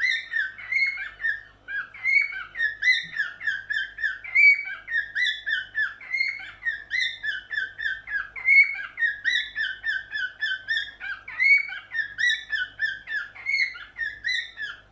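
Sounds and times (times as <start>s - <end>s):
cockatiel whistled chirps: 0.0s - 14.8s.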